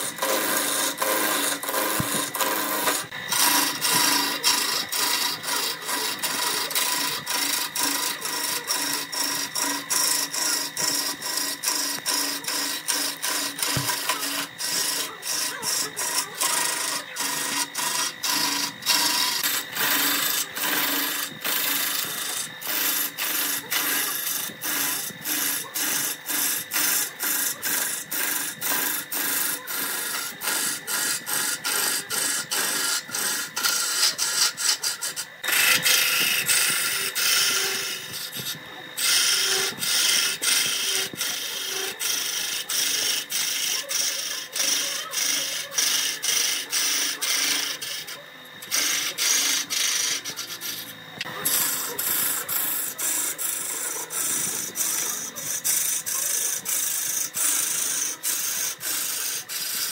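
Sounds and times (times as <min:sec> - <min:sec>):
lathe tool rasping wood: 0:00.0 - 0:59.9.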